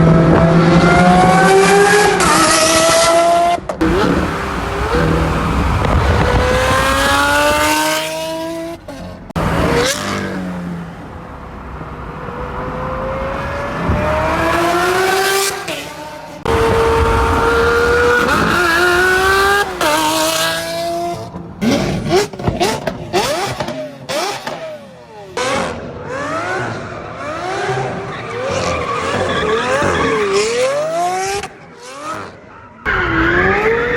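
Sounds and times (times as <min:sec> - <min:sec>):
car engine revving and accelerating: 0:00.0 - 0:11.2, 0:11.8 - 0:33.9.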